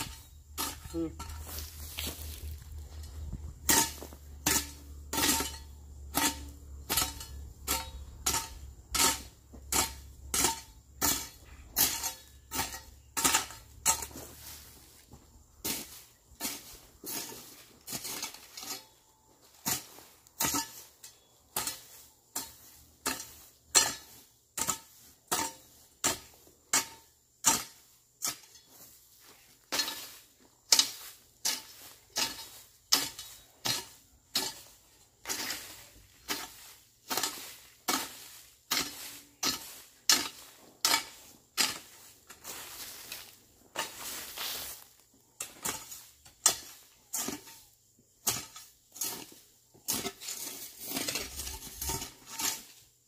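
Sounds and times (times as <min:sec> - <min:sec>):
hoe chopping into ground: 0:00.0 - 0:52.9.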